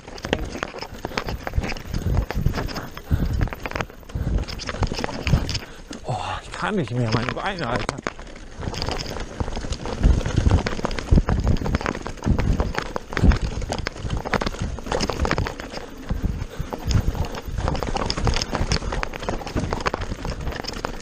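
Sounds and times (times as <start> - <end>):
mountain bike clattering on dirt trail: 0.0 - 21.0.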